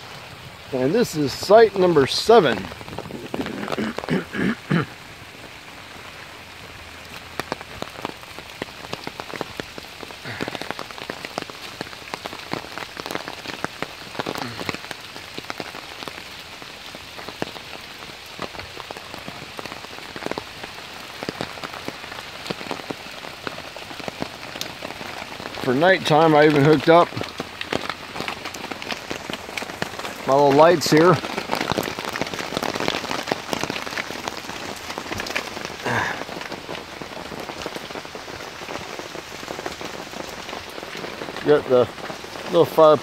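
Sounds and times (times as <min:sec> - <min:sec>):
rain drops hitting close by: 0:00.0 - 0:43.0
rain hissing: 0:00.0 - 0:43.0.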